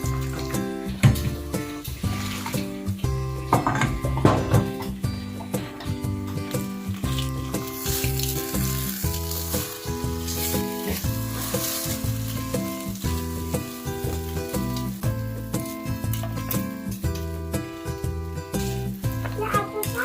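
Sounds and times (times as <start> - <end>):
background music with steady beat: 0.0 - 20.0
food sizzling in a pan: 0.0 - 20.0.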